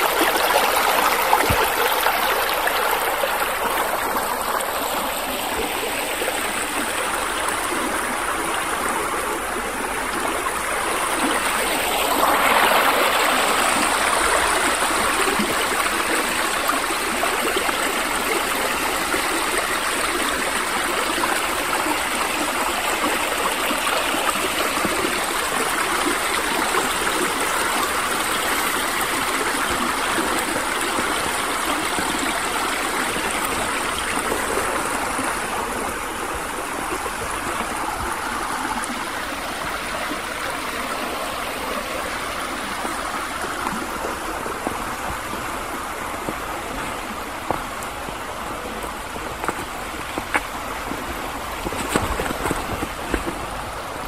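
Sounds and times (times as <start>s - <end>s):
stream rushing and splashing: 0.0s - 54.0s.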